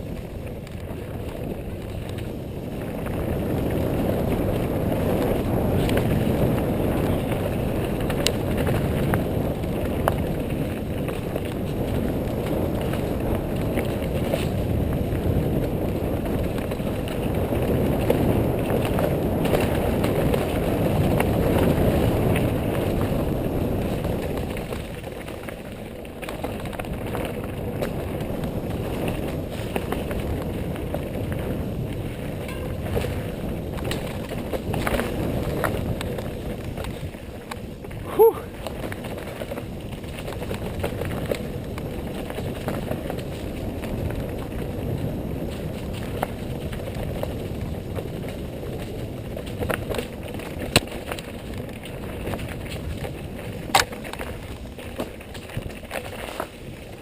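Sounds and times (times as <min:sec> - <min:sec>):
bike clicks and rattles: 0:00.0 - 0:57.0
bike tyres rolling on dirt: 0:00.0 - 0:57.0
wind rushing over microphone: 0:00.0 - 0:57.0.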